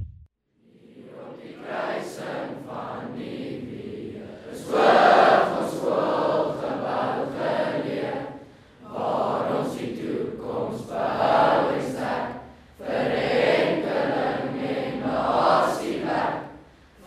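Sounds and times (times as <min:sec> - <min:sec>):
group of voices singing: 0:00.6 - 0:16.6.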